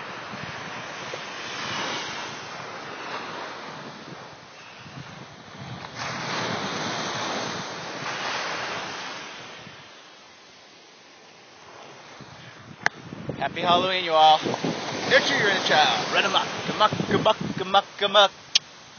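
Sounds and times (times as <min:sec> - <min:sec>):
small waves breaking on beach: 0:00.0 - 0:18.9
wind gusts on microphone: 0:00.0 - 0:18.9.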